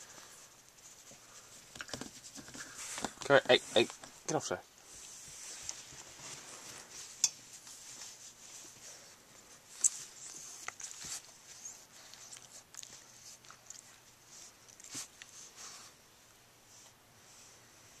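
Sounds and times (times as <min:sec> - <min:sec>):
puppy scuffling and rustling: 0:00.0 - 0:18.0.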